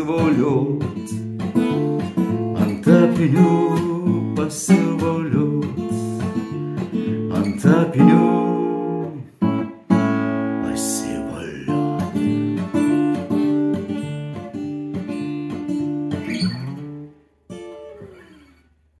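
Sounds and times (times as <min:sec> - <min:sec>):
acoustic guitar strumming: 0:00.0 - 0:18.7.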